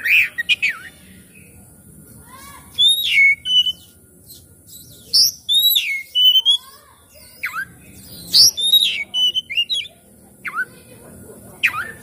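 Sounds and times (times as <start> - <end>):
bird whistling song: 0.0 - 1.6, 2.7 - 10.8, 11.6 - 12.0.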